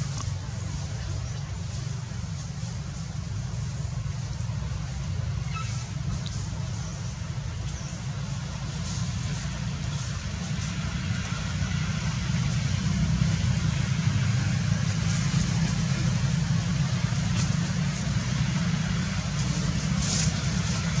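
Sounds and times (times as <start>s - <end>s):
constant hiss: 0.0s - 21.0s.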